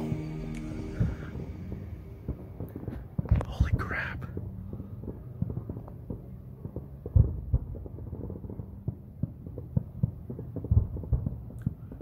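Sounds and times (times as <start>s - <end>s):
distant fireworks booming: 0.9s - 12.0s.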